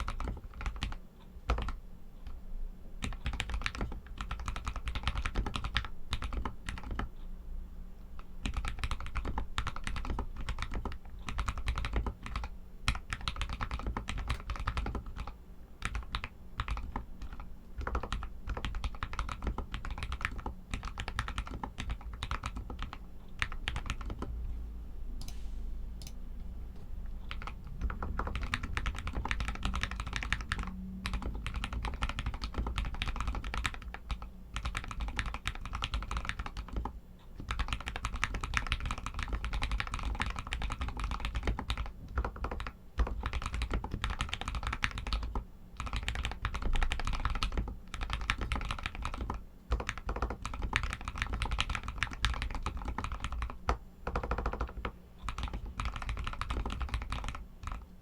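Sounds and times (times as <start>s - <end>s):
fast typing on mechanical keyboard: 0.0s - 1.8s, 3.0s - 7.1s, 8.4s - 24.3s, 27.2s - 58.0s.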